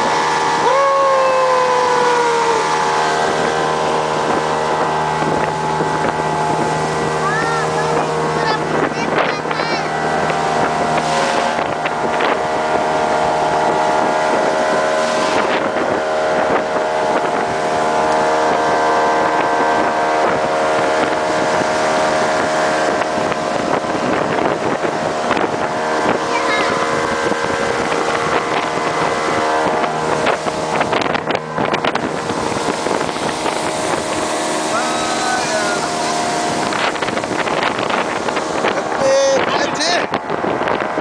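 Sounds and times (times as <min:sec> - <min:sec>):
speedboat engine running: 0:00.0 - 0:41.0
wind and water rushing: 0:00.0 - 0:41.0.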